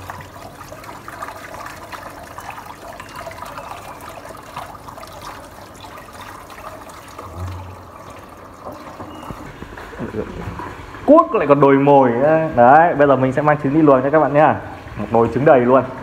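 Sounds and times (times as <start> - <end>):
water running and trickling: 0.0 - 16.0.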